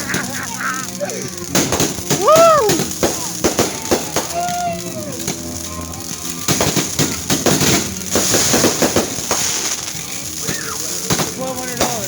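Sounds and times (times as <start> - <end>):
firework bangs and crackles: 0.0 - 12.0
firework whistle falling: 0.0 - 12.0.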